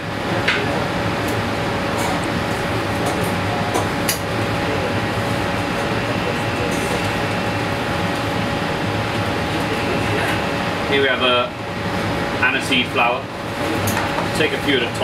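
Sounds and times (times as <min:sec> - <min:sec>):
ventilation fans rushing: 0:00.0 - 0:15.0.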